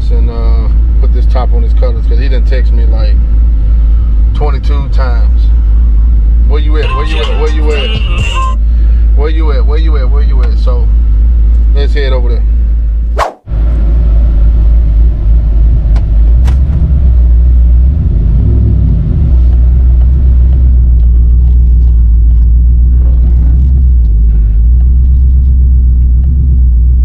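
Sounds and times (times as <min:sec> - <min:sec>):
truck engine and road rumble: 0:00.0 - 0:13.0, 0:13.8 - 0:27.0.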